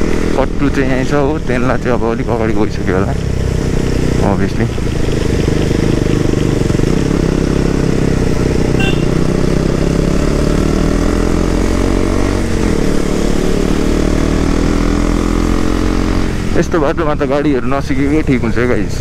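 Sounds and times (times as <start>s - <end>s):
wind and tyres on wet road: 0.0s - 19.0s
motorcycle engine running: 2.1s - 18.7s.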